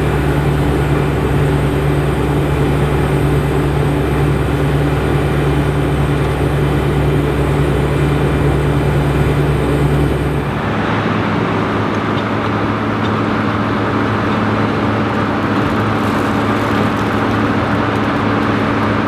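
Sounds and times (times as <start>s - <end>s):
combine engine drone: 0.0s - 19.0s.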